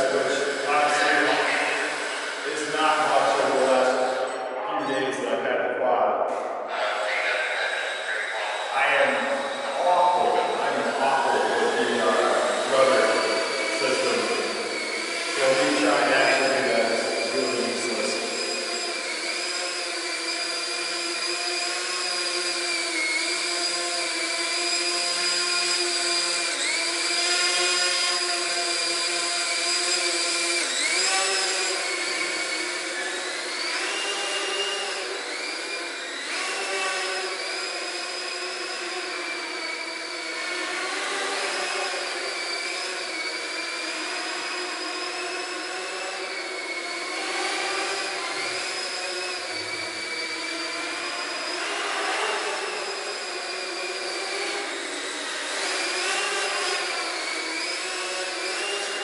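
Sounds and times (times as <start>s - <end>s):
drone propellers whining: 0.0s - 5.5s, 6.2s - 59.0s.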